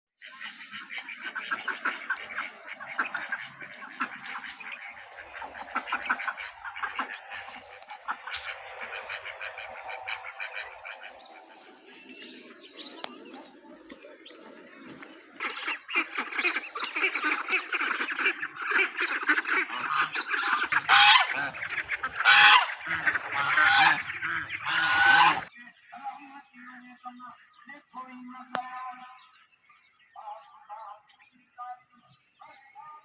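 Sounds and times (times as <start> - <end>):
flock of waterfowl calling: 0.2 - 33.0.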